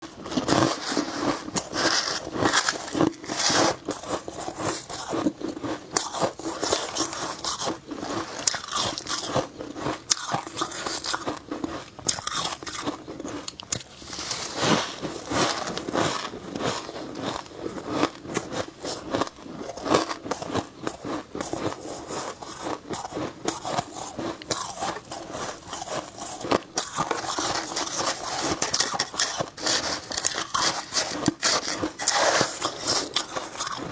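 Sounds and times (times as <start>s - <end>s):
chewing frost crunches: 0.2s - 33.9s.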